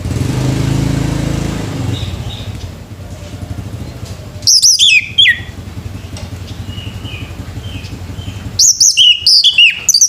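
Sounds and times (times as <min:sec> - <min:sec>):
motor vehicle passing: 0:00.0 - 0:10.0.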